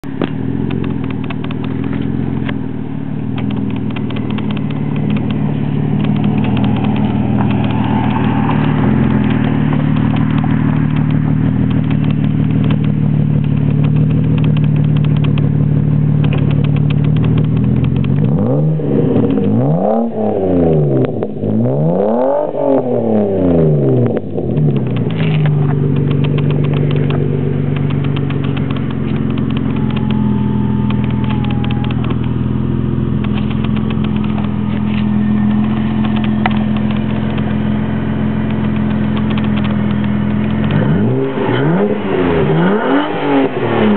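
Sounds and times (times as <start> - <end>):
car exhaust idling and revving: 0.0 - 43.9.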